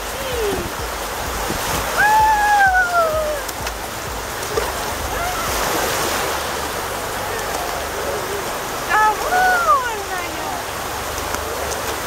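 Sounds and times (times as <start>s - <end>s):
surf waves washing over sand: 0.0s - 12.0s.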